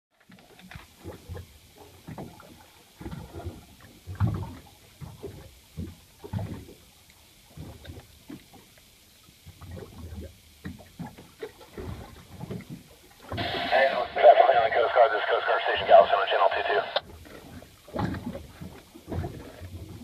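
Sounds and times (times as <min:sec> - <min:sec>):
water lapping against hull: 0:00.2 - 0:14.2, 0:17.0 - 0:20.0.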